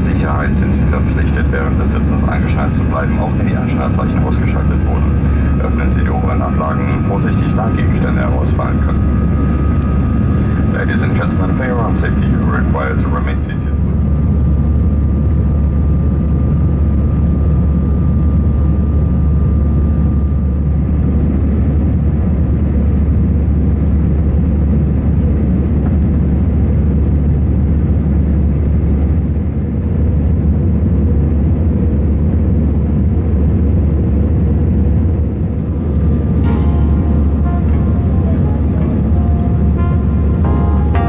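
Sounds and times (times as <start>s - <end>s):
jet engine cabin drone: 0.0s - 41.0s.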